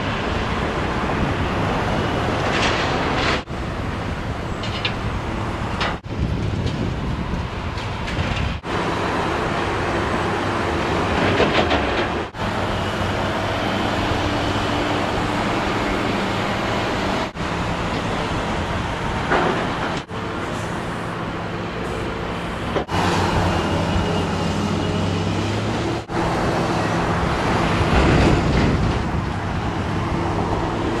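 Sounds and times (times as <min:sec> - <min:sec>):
excavator diesel engine running: 0:00.2 - 0:31.0.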